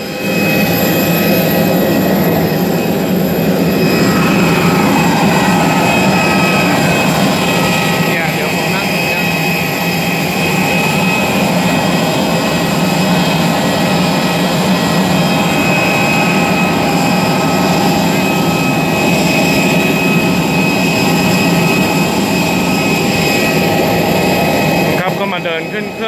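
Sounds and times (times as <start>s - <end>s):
jet turbine whining: 0.0s - 26.0s.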